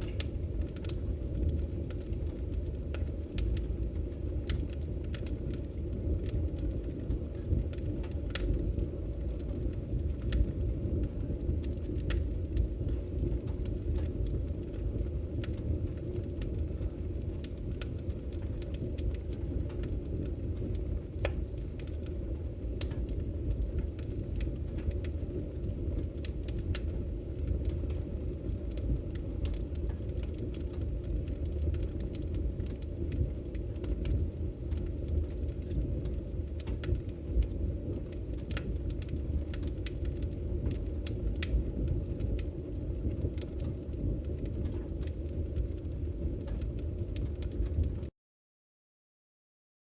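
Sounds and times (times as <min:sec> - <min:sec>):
fire crackling and popping: 0:00.0 - 0:48.1
wood fire roaring: 0:00.0 - 0:48.1.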